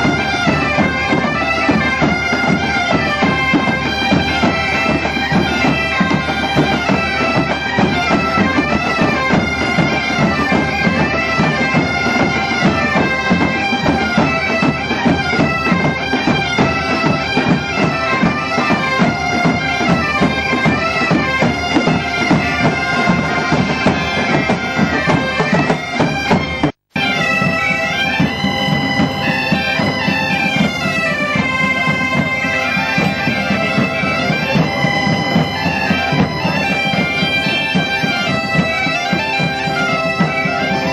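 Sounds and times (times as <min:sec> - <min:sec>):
bagpipes playing in unison: 0:00.0 - 0:40.9
drums beating: 0:00.0 - 0:40.9.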